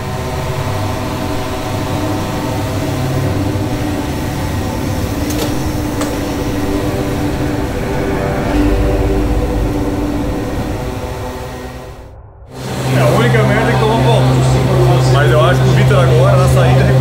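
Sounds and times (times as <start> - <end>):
race car engine: 0.0 - 17.0.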